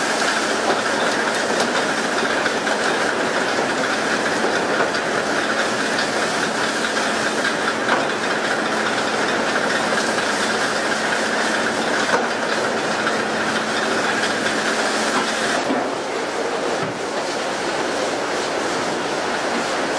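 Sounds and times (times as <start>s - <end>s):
boat wash: 0.0s - 19.9s.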